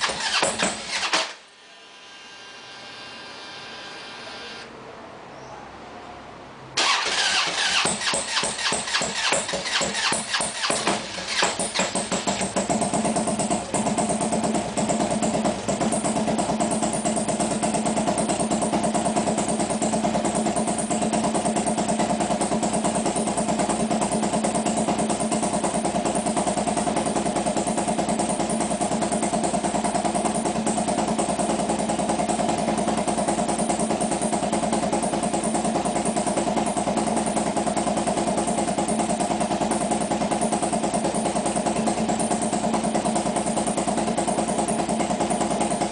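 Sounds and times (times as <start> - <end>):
motorcycle engine idling: 0.0 - 1.3, 6.8 - 45.9.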